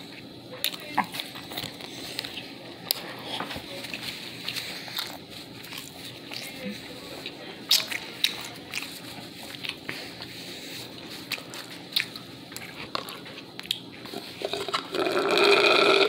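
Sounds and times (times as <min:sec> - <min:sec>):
person chewing and biting food: 0:00.6 - 0:06.6, 0:07.7 - 0:10.3, 0:10.9 - 0:15.9.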